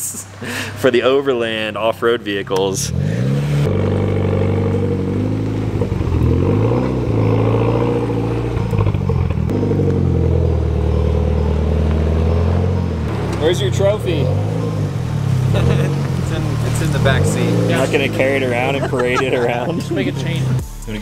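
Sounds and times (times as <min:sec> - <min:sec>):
car engine at low revs: 0:02.8 - 0:20.6.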